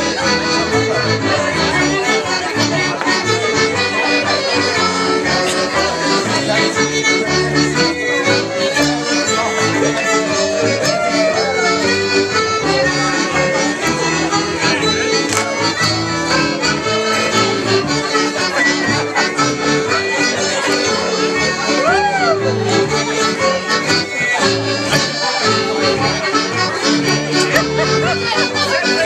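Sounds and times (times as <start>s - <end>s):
fiddle: 0.0s - 29.0s
keyboard: 0.0s - 29.0s
reedy accordion-like sound: 0.0s - 29.0s.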